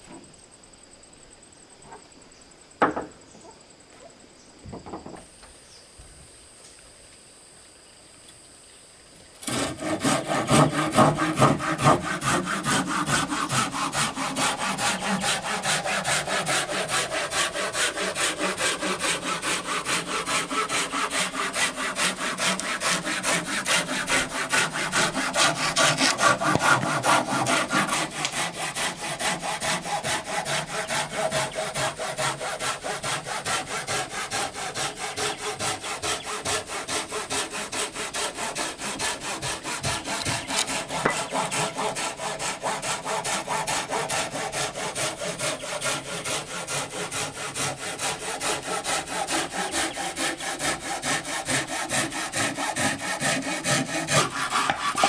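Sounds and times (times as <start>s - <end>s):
hand saw cutting wood: 9.4s - 55.0s.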